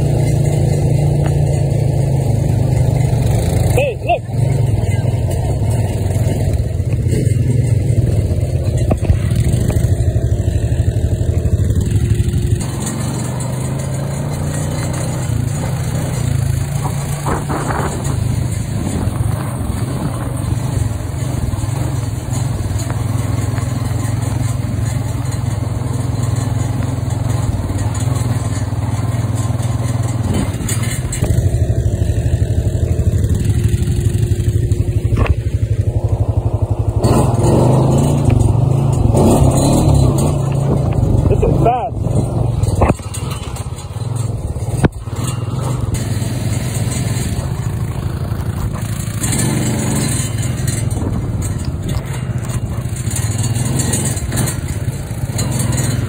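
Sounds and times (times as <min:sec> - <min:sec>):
off-road vehicle engines running: 0:00.0 - 0:56.0.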